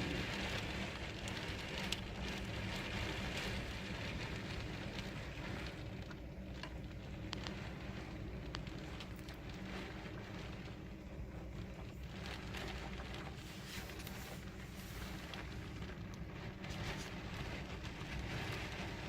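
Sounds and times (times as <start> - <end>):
heavy wind-driven rain: 0.0 - 19.0
raindrops tapping a surface: 0.0 - 19.0.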